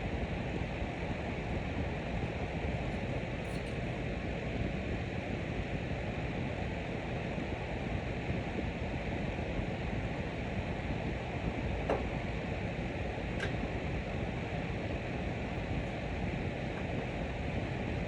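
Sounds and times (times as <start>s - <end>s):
fan running: 0.0s - 18.0s.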